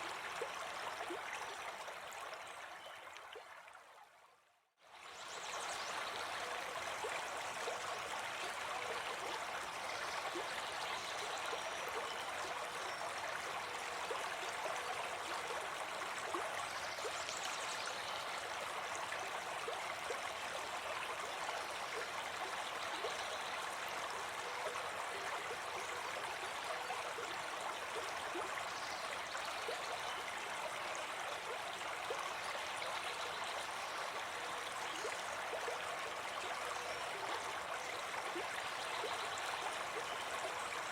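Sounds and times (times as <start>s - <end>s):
brook babbling: 0.0s - 40.9s.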